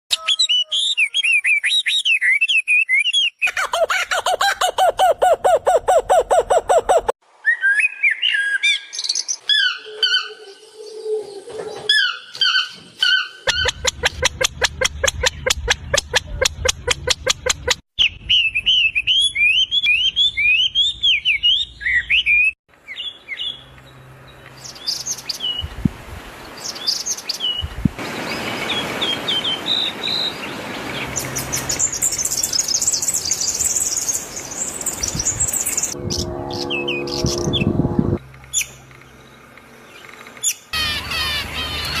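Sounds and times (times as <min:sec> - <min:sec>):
birds chirping and trilling: 0:00.1 - 0:42.0.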